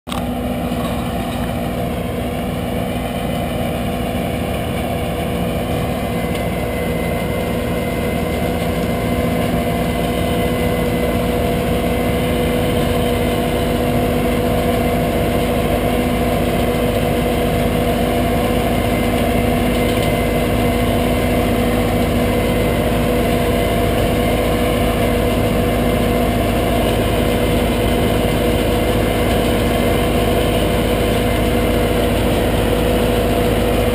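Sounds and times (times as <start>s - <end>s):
harvesting machinery engines droning: 0.1s - 33.9s.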